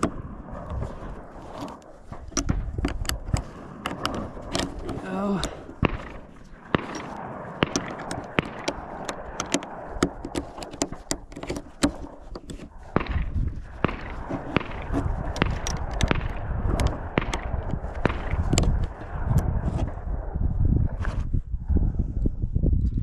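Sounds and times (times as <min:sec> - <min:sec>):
low rumble: 0:00.0 - 0:11.0, 0:11.6 - 0:23.0.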